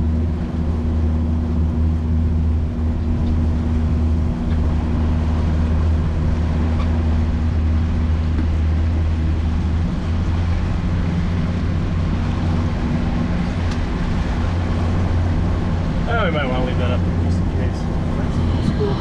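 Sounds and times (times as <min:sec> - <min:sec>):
outboard motor running: 0:00.0 - 0:19.0
water noise: 0:00.0 - 0:19.0
wind noise: 0:00.0 - 0:19.0.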